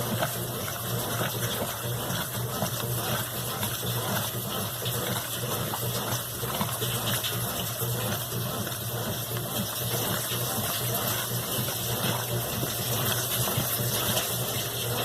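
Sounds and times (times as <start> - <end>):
washing machine water rushing: 0.0 - 15.0.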